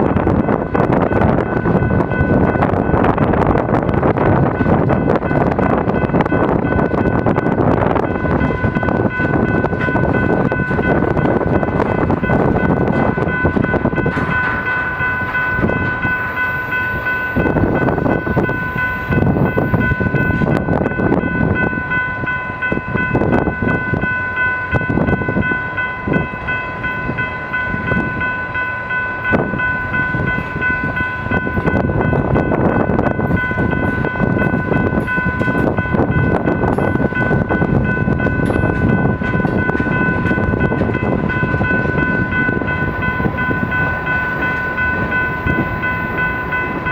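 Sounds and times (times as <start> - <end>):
train wheels rumbling and clicking: 0.0 - 46.9
high ringing tone: 4.6 - 46.9.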